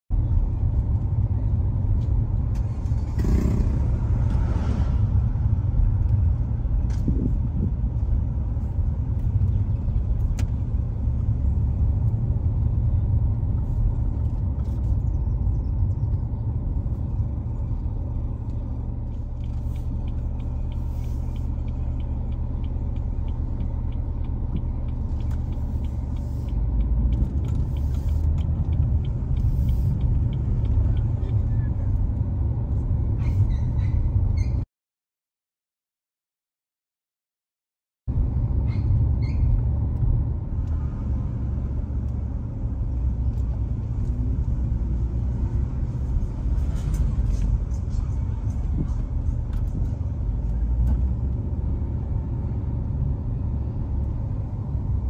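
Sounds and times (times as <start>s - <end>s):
car road noise rumble: 0.1s - 34.6s, 38.1s - 55.0s.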